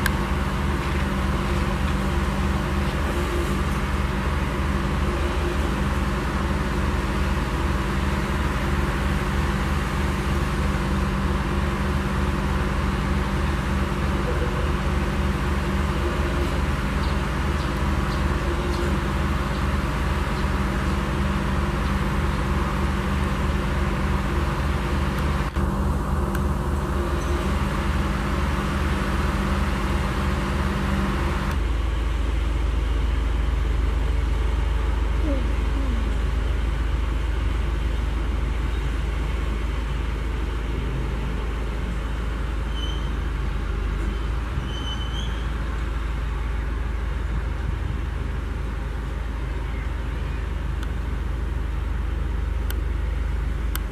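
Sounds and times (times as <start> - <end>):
machine engine drone with pulsing: 0.0 - 53.9.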